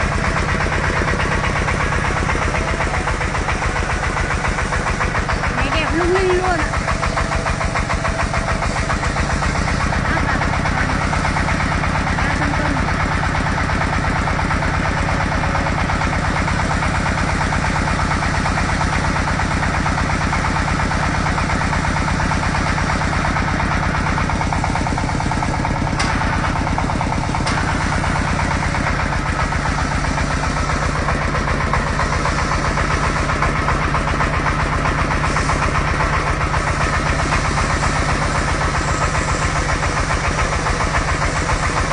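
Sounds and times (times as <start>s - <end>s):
drilling machine engine running: 0.0s - 41.9s.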